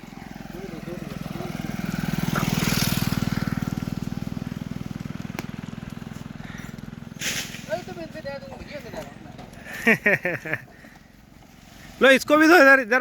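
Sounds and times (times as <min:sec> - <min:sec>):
motorcycle engine passing: 0:00.0 - 0:11.6.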